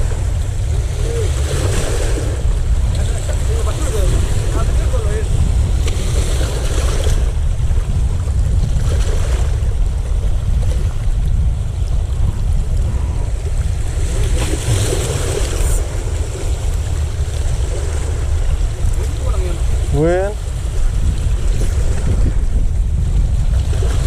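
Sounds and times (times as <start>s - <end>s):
sea wash: 0.0s - 24.0s
wind buffeting microphone: 0.0s - 24.0s.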